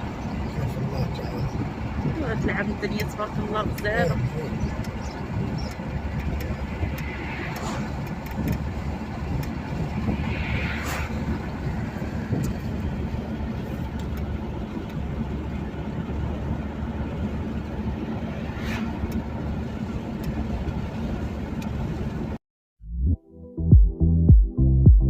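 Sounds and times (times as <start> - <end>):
car engine: 0.0 - 22.4
road noise: 0.0 - 22.4.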